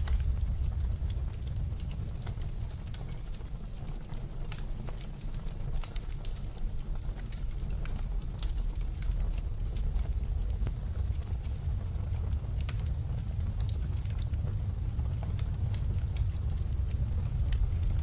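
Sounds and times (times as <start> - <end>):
blizzard wind rumbling: 0.0 - 4.0, 6.7 - 18.0
wood fire crackling: 0.0 - 18.0.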